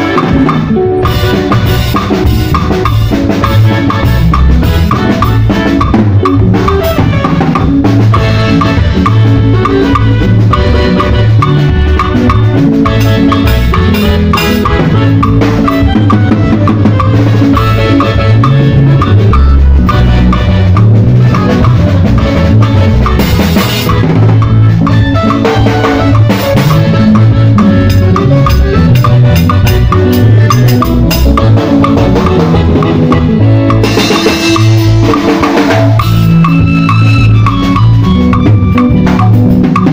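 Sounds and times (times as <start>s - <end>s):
bass line: 0.0s - 39.9s
drum kit and percussion groove: 0.0s - 39.9s
pitched instruments: 0.0s - 39.9s.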